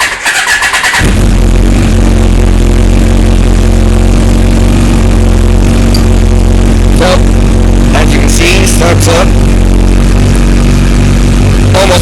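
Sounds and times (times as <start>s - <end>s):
electric starter cranking: 0.0s - 10.0s
motorcycle engine idling loudly: 0.0s - 12.0s.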